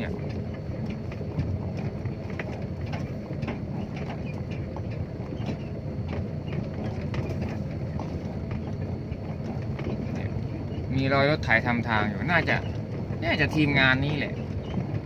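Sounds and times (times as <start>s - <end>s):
rattles and knocks: 0.0s - 15.0s
truck engine rumble: 0.0s - 15.0s.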